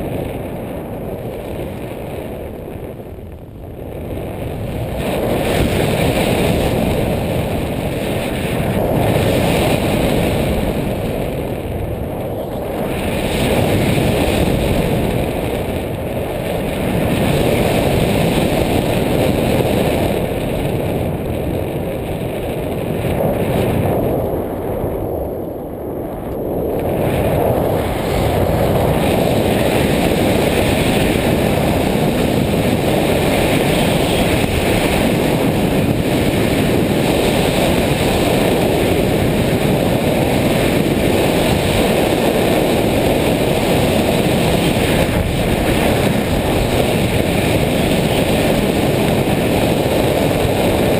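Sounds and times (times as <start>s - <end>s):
wind rushing on microphone: 0.0s - 50.9s.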